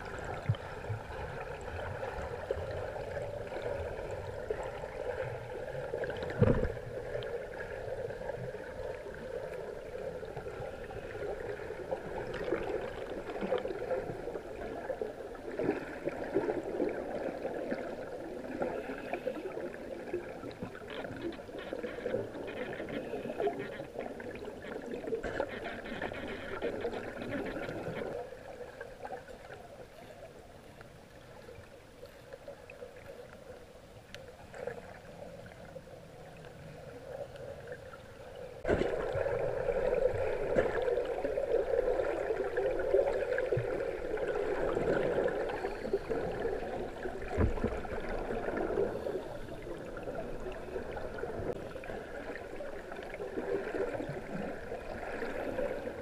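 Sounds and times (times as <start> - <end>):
underwater gurgling and bubbling: 0.0 - 30.4, 31.1 - 56.0.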